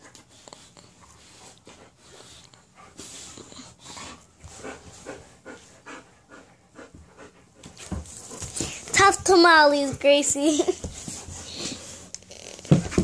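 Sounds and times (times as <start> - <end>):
dog panting: 0.0 - 12.1.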